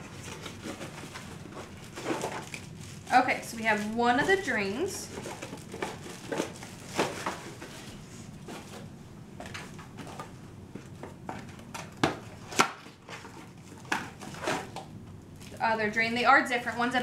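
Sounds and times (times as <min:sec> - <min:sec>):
cardboard scraping and rustling: 0:00.0 - 0:14.9.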